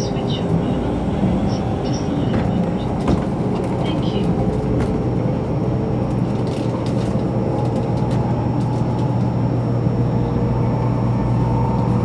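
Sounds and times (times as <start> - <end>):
train cabin hum and rumble: 0.0 - 12.0.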